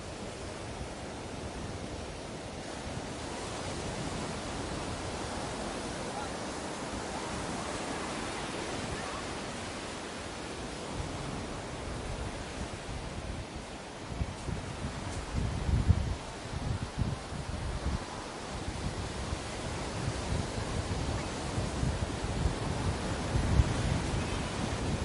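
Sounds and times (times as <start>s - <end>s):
ocean waves washing onto beach: 0.0s - 25.0s.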